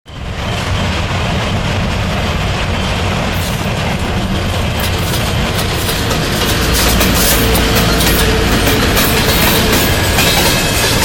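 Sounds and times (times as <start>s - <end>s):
locomotive and wagons rumbling on rails: 0.1s - 11.0s.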